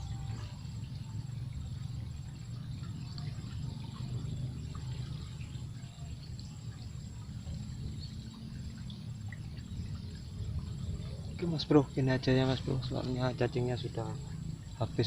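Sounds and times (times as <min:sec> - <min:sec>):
insect pulsing trill: 0:00.0 - 0:15.0
steady low rumble: 0:00.0 - 0:15.0.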